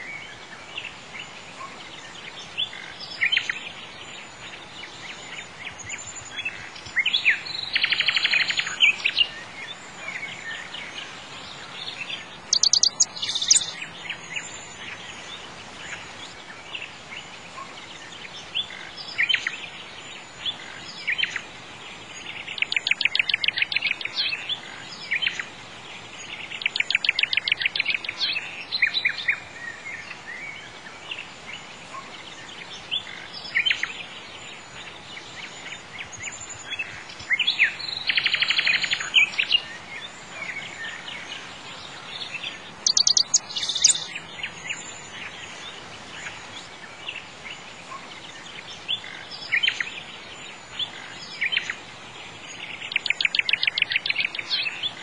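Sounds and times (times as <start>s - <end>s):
birds singing trills and chirps: 0.0s - 55.0s
steady background hiss: 0.0s - 55.0s.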